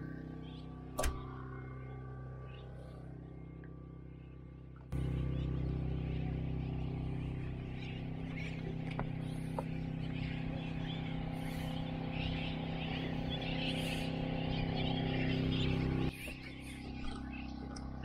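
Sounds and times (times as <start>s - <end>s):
generator humming: 0.0s - 18.0s
many birds calling: 0.0s - 18.0s.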